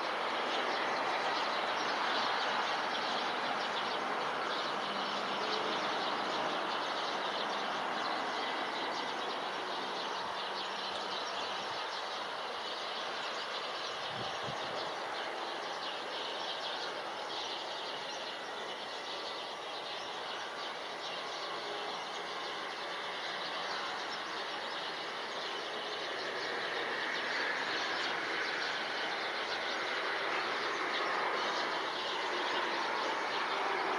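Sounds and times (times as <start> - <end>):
distant city rumble: 0.0 - 33.9.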